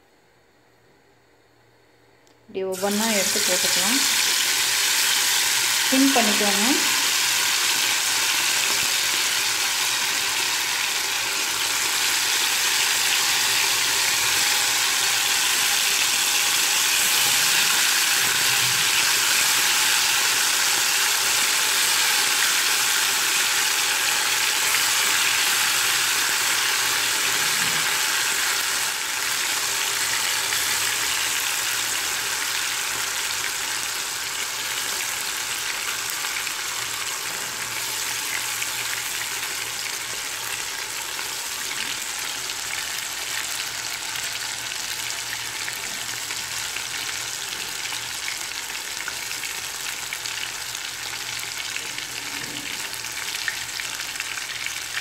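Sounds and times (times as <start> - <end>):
prawns sizzling in hot oil: 2.7 - 55.0.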